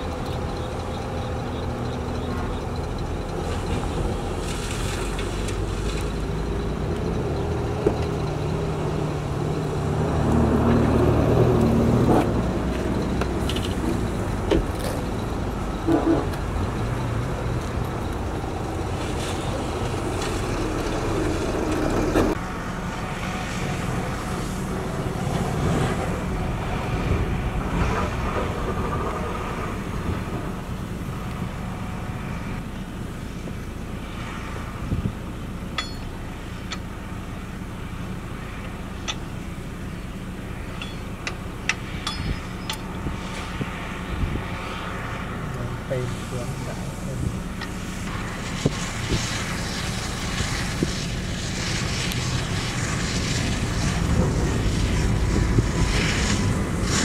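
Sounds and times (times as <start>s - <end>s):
excavator diesel engine: 0.0s - 50.4s.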